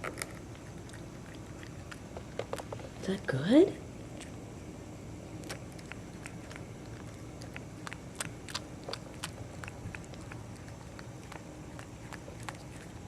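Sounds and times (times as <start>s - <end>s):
cat chewing grass: 0.0s - 3.0s, 4.0s - 13.0s
low background hum: 0.0s - 13.0s.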